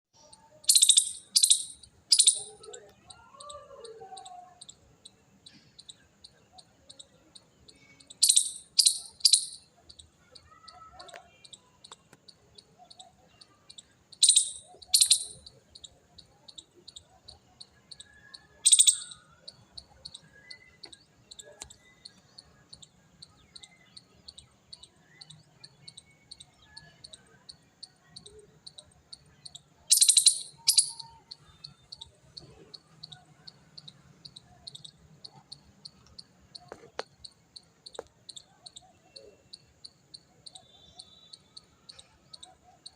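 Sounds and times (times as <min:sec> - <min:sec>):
insect chirping: 0:00.2 - 0:42.9.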